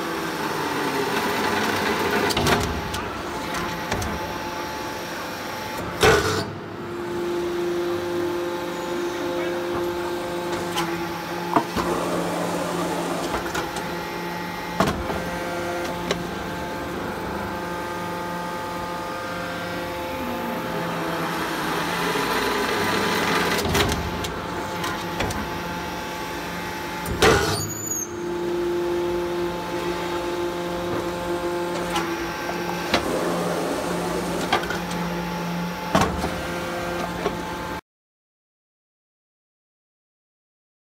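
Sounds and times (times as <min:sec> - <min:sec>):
hydraulic pump humming: 0:00.0 - 0:37.8.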